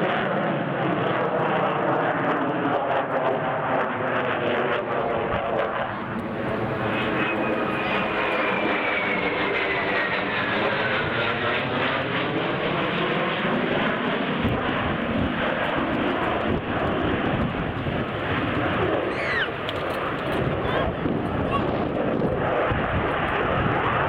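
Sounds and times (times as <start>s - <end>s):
aircraft flying past: 0.0s - 24.0s.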